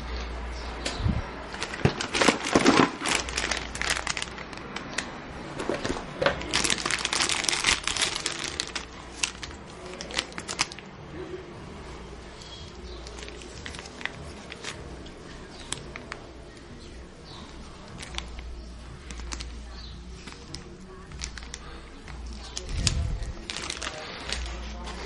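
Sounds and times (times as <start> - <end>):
plastic bags crinkling: 1.4 - 10.9, 12.3 - 25.0.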